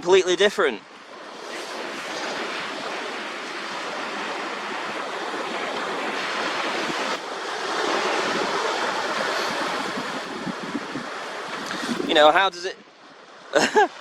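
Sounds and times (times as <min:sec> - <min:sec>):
small waves washing on shore: 0:00.1 - 0:14.0.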